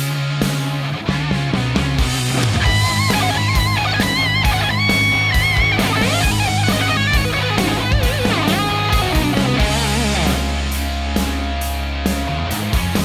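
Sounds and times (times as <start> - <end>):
bass: 0.0 - 13.0
electric guitar lead: 0.0 - 13.0
steady drum beat: 0.0 - 13.0.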